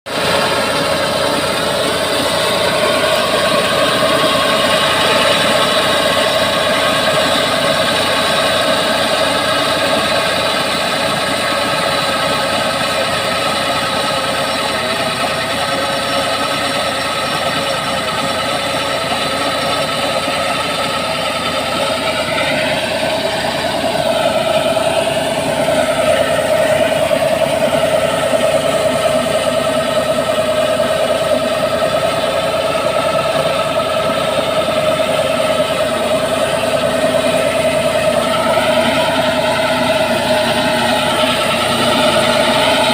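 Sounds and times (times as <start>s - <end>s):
drilling machine running: 0.1s - 42.9s.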